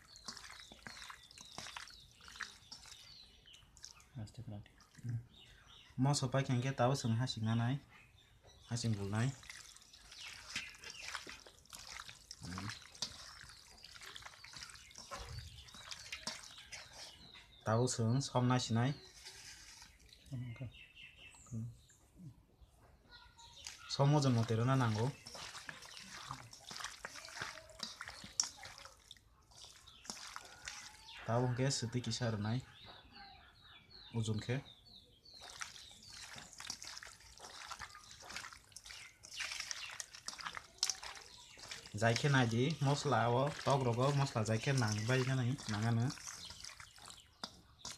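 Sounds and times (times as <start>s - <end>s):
wet squelching of mixing by hand: 0.0s - 21.5s, 23.5s - 33.2s, 35.2s - 47.9s.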